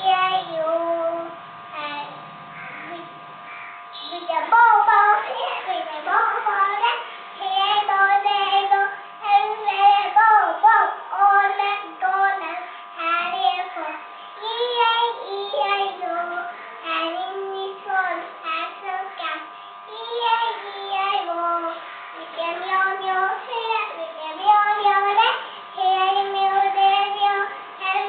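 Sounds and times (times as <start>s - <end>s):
girl singing: 0.0s - 2.2s, 4.0s - 28.0s.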